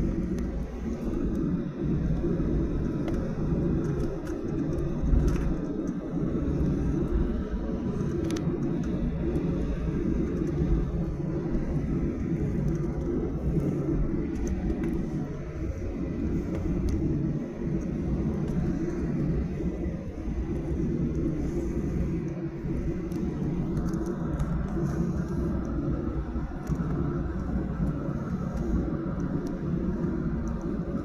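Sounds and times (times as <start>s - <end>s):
aircraft cabin engine rumble: 0.0s - 31.0s.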